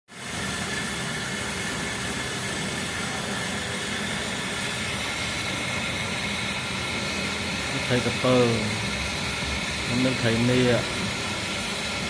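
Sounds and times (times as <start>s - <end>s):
steady mechanical hiss and hum: 0.1s - 12.0s.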